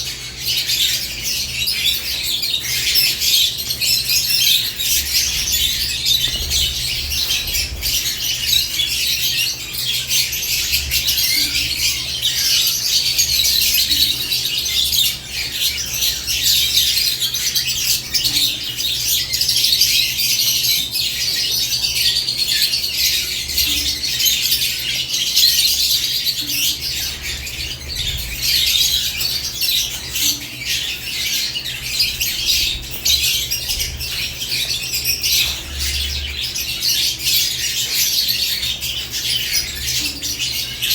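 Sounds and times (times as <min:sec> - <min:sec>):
lovebirds chattering: 0:00.0 - 0:40.9.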